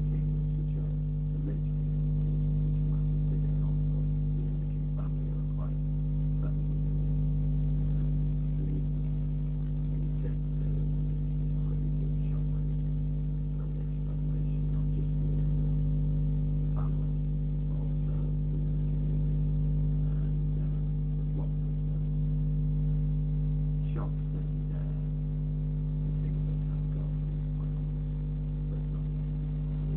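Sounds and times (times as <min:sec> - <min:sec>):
low electrical hum: 0:00.0 - 0:29.9.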